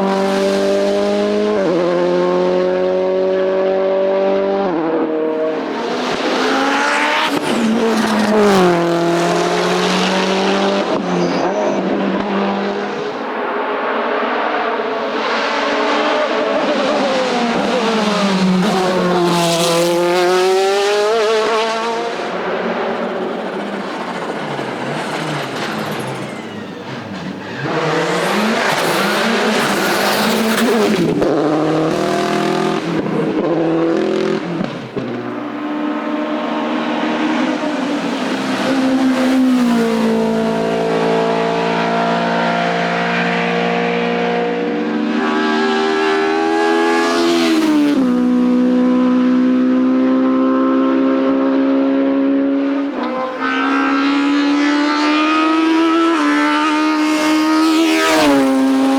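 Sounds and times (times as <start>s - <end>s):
race car engines at full throttle: 0.0s - 58.9s.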